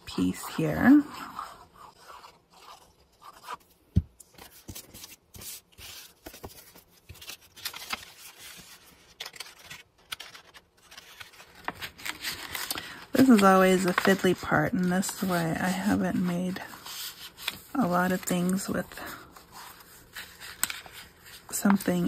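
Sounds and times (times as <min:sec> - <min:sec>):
paper envelopes rustling: 0:00.0 - 0:22.0.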